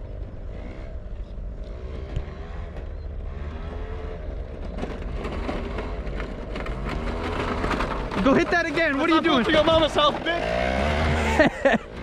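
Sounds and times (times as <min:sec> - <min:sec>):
moped engine revving: 0:00.0 - 0:12.0.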